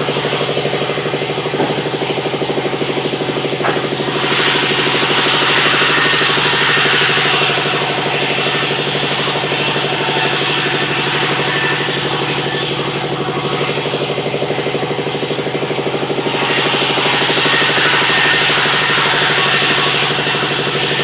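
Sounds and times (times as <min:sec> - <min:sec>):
sawmill machinery drone: 0:00.0 - 0:21.0.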